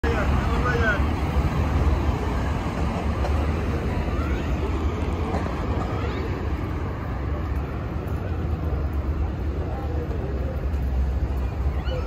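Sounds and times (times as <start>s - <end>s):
faint voices of passers-by: 0.0s - 12.0s
low city rumble: 0.0s - 12.0s.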